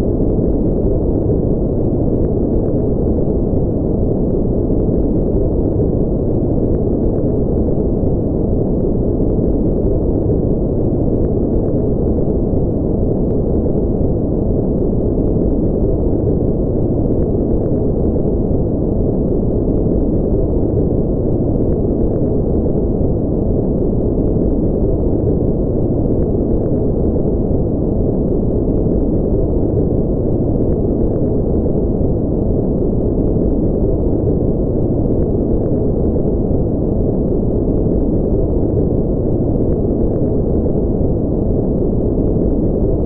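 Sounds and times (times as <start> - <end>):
deep muffled white noise: 0.0 - 43.0.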